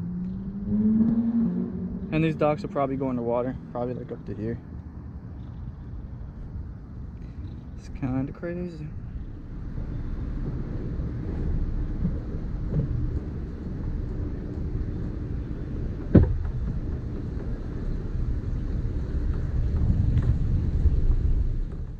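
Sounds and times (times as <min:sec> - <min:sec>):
road noise: 0:00.0 - 0:21.9
wind buffeting microphone: 0:00.0 - 0:21.9.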